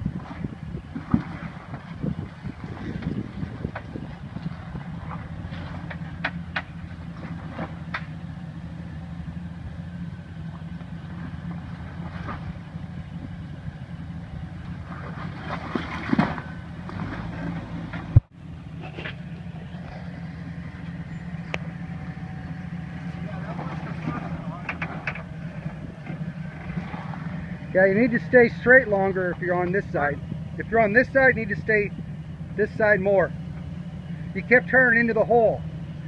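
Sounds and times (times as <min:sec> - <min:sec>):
car engine running at low speed: 0:00.0 - 0:36.0.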